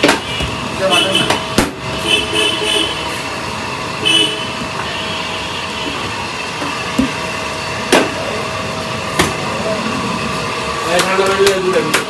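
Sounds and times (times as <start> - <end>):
machine whirring hum: 0.0 - 12.0.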